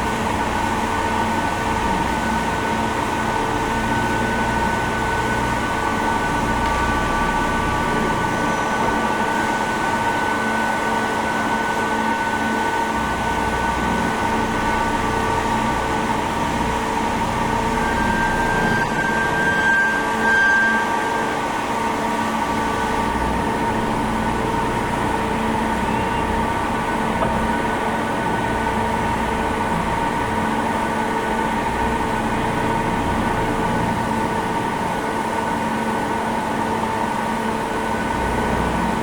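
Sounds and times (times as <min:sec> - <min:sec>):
higher machine whine: 0:00.0 - 0:39.0
lathe motors humming: 0:00.0 - 0:39.0
machine whining tones: 0:00.2 - 0:39.0.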